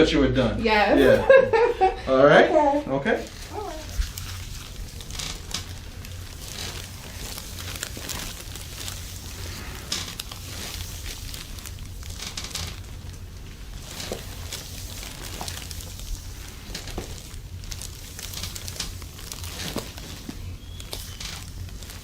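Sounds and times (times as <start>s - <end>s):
steady low hum: 0.0s - 22.0s
clothing rustling and crinkling: 2.5s - 22.0s.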